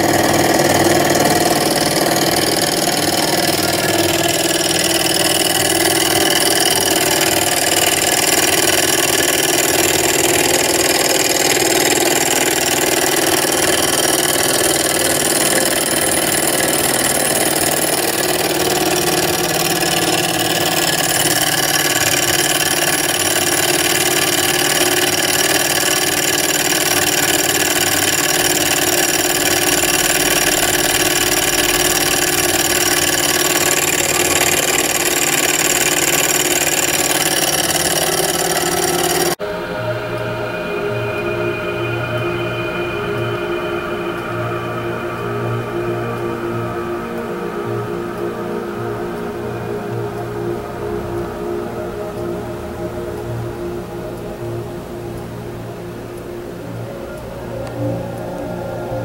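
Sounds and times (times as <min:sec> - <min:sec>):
small engine mechanical whir: 0:00.0 - 0:59.0.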